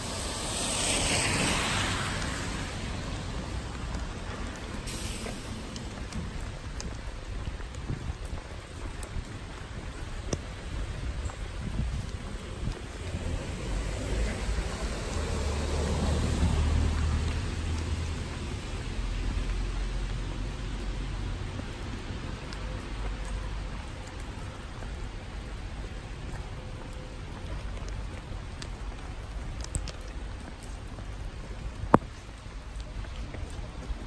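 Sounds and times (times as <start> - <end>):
low traffic rumble: 0.0 - 34.0
rain falling on pavement: 0.0 - 34.0.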